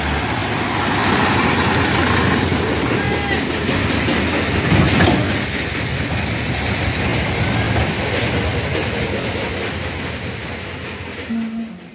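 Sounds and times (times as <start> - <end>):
tractor engine running: 0.0 - 11.2
trailer rattling: 0.0 - 11.9.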